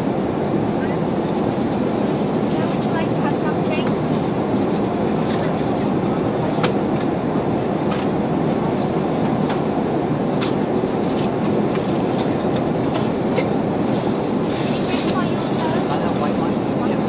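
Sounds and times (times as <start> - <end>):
aircraft cabin engine roar: 0.0 - 17.0.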